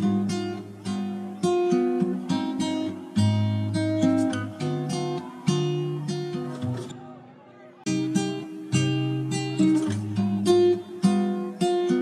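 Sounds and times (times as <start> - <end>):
acoustic guitar strumming chords: 0.0 - 7.3, 7.9 - 12.0.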